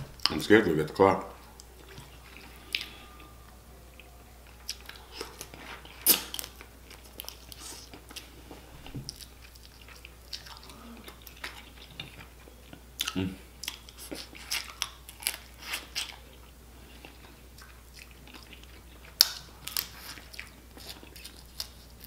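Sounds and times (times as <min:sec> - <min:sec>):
person chewing crab meat: 0:00.2 - 0:22.0.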